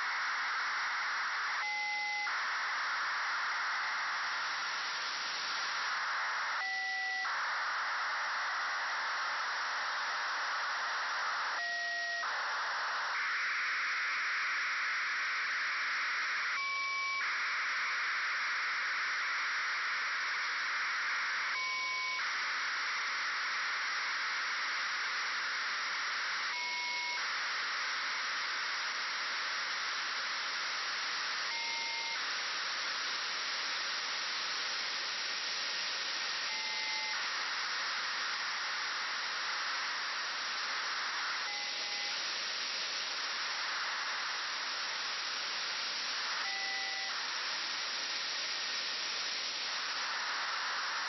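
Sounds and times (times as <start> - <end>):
radio static hiss: 0.0 - 51.0.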